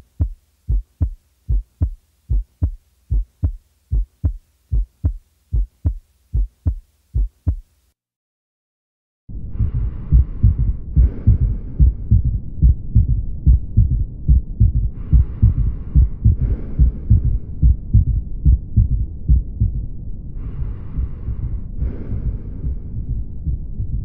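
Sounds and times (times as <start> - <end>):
heartbeat thudding: 0.0 - 7.7, 9.5 - 20.0, 21.0 - 24.0.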